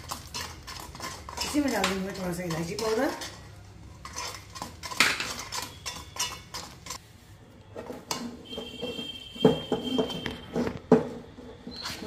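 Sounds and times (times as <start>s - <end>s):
spoon scraping metal pan: 0.0s - 7.0s, 7.7s - 12.0s.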